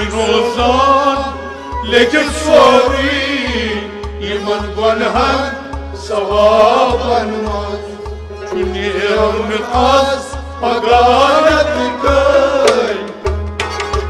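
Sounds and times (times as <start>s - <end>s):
person singing: 0.0s - 13.2s
goblet drum beat: 0.0s - 14.0s
plucked and bowed strings: 0.0s - 14.0s.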